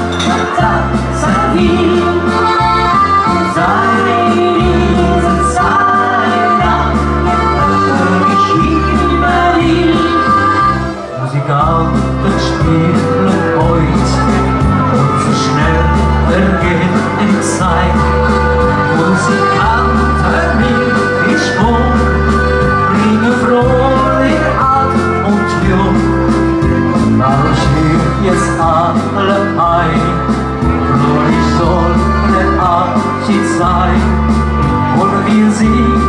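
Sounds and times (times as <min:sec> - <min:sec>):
accordion: 0:00.0 - 0:36.0
keyboard backing of bass and drums: 0:00.0 - 0:36.0.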